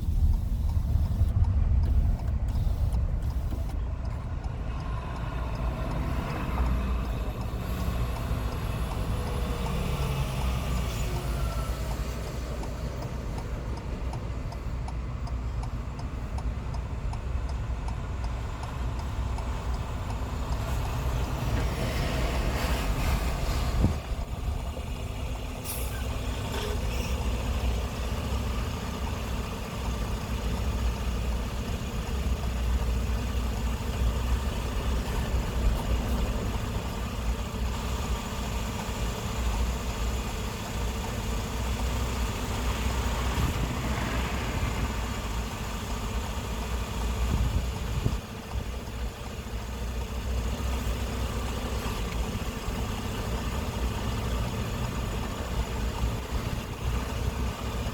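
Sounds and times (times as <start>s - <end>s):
engine drone: 0.0s - 57.9s
road and tyre rumble: 0.0s - 57.9s.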